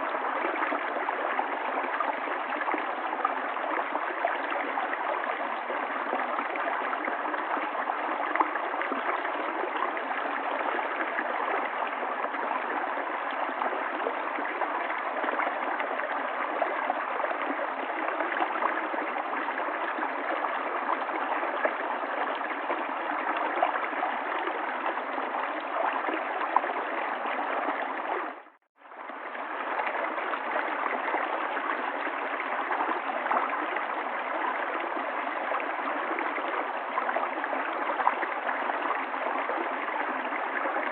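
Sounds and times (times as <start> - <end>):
river water flowing and gurgling: 0.0 - 40.9.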